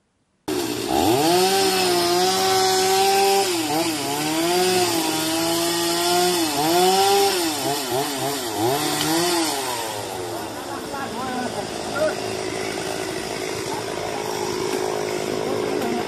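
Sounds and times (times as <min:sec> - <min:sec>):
chainsaw running at high revs: 0:00.5 - 0:16.0.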